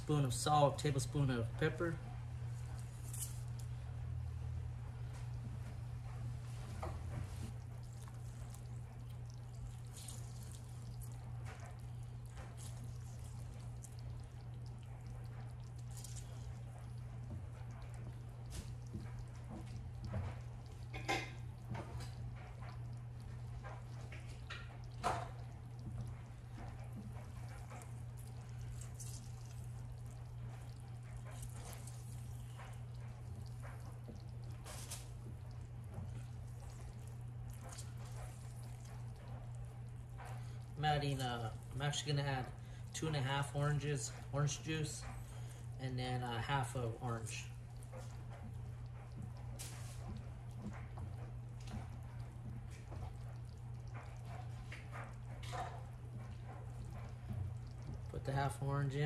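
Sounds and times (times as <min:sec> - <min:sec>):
liquid drips and splashes: 0:00.0 - 0:59.0
pot bubbling on a gas burner: 0:00.0 - 0:59.0
steady low hum: 0:00.0 - 0:59.0.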